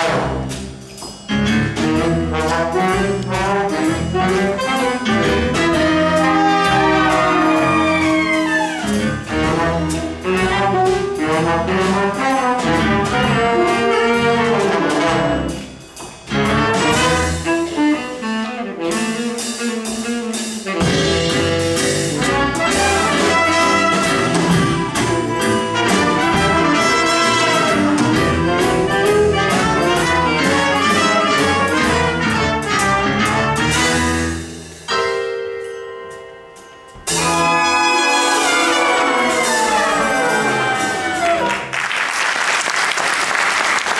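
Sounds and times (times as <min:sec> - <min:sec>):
jazz band playing: 0:00.0 - 0:43.9.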